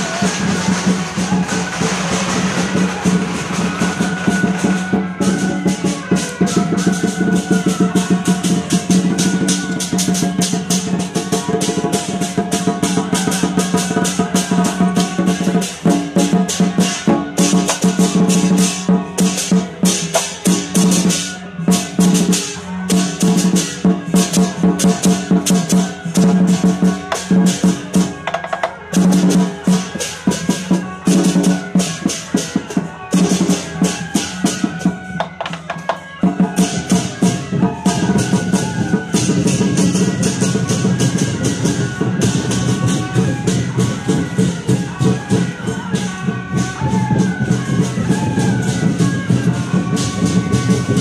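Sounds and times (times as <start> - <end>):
barrel drums beating: 0.0 - 51.0
cymbals clashing: 0.0 - 51.0.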